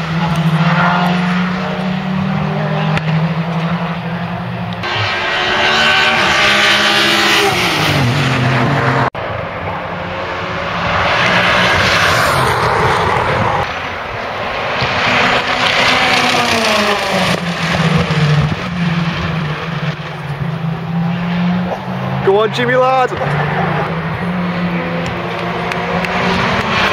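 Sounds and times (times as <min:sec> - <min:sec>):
racing cars passing at speed: 0:00.0 - 0:26.9.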